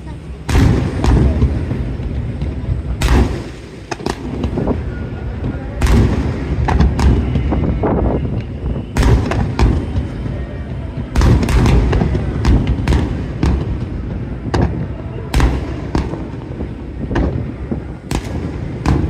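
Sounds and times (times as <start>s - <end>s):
fireworks cracks and bangs: 0.4s - 19.0s
low booming rumble: 0.4s - 19.0s.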